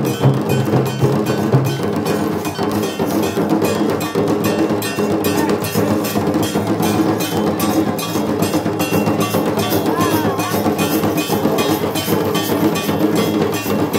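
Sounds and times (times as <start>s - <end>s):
drums beaten with sticks: 0.0s - 13.9s
small brass hand cymbals: 0.0s - 13.9s.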